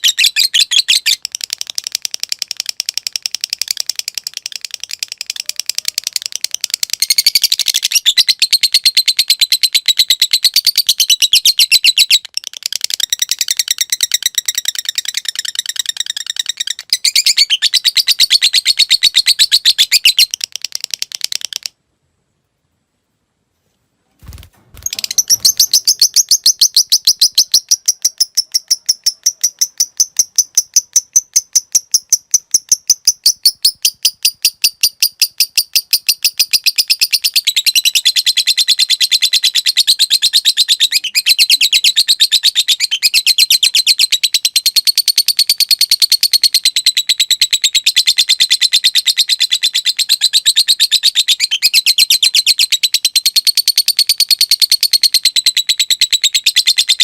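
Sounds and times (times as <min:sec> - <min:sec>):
lovebird chattering: 0:00.0 - 0:21.7, 0:24.8 - 0:57.0.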